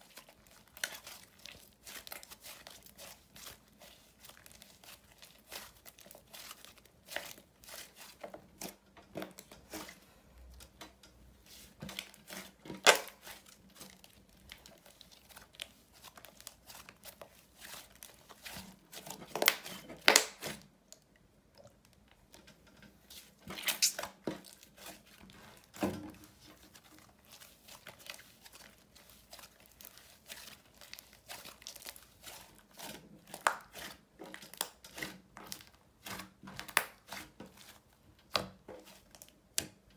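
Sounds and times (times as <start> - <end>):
slime squelching and crackling: 0.0 - 9.9, 11.4 - 22.4, 23.1 - 39.8.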